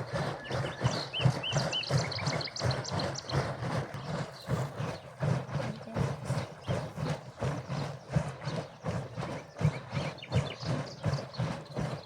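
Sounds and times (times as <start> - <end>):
milk sloshing in skin churn: 0.0 - 12.0.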